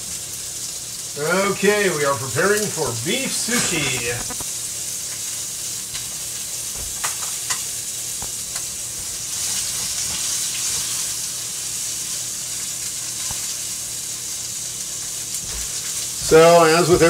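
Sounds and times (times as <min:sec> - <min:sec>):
steak sizzling in a skillet: 0:00.0 - 0:17.0.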